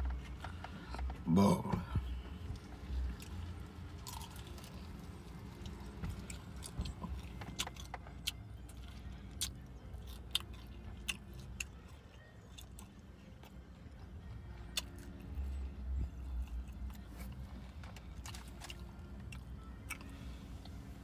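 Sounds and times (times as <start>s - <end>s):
chewing with wet smacks: 0.0s - 20.8s
low steady hum: 0.0s - 21.0s.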